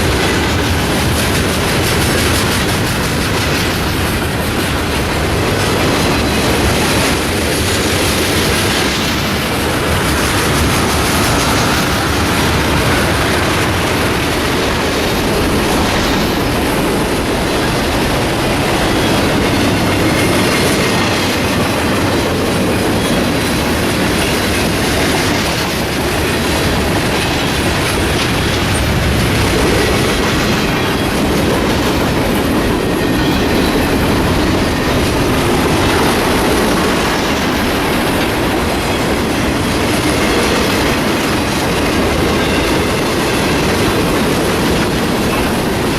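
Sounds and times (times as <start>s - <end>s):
freight train wheels clattering: 0.0s - 45.9s.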